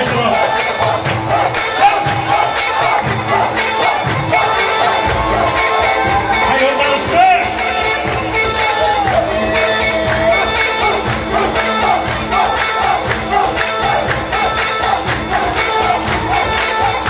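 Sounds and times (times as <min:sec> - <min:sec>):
crowd of dancing guests: 0:00.0 - 0:17.0
steady drum beat: 0:00.0 - 0:17.0
wavering lead melody: 0:02.3 - 0:17.0.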